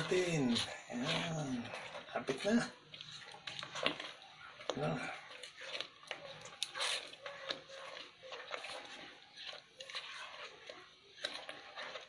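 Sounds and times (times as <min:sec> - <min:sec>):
spoon stirring sticky paste: 0:00.0 - 0:12.0.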